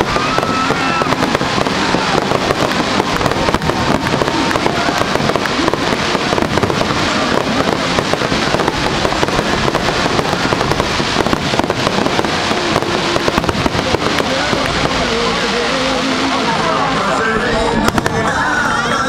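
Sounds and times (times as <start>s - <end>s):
fireworks bangs: 0.0s - 18.7s.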